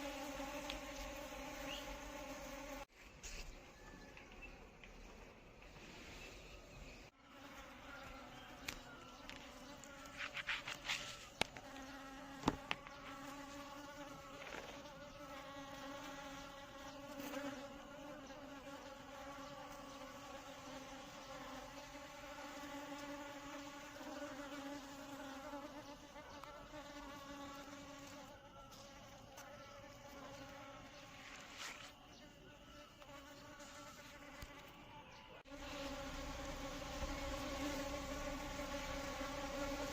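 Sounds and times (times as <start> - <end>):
bees buzzing: 0.0 - 2.9, 7.1 - 39.9.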